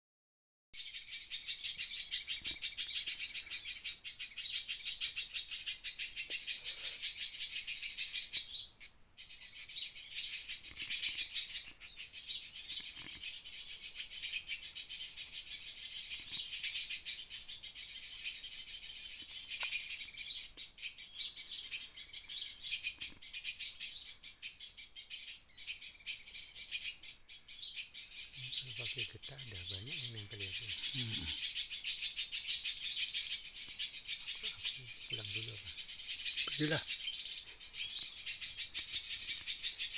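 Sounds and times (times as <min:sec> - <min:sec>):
birds chirping and twittering: 0:00.8 - 0:39.9.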